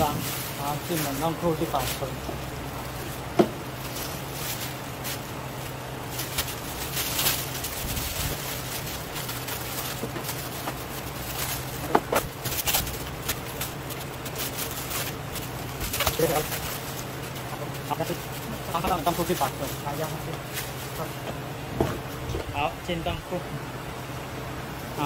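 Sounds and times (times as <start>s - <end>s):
plastic bags rustling and crinkling: 0.0s - 23.2s
steady low hum: 0.0s - 25.0s.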